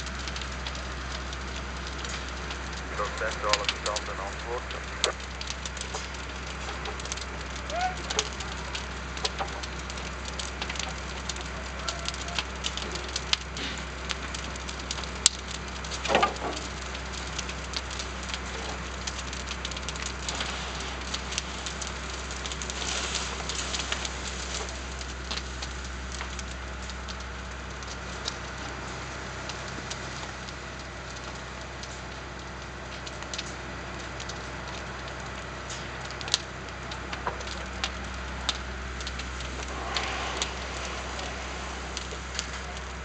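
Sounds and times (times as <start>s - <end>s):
burning wood crackling and popping: 0.0s - 43.0s
fire hiss: 0.0s - 43.0s.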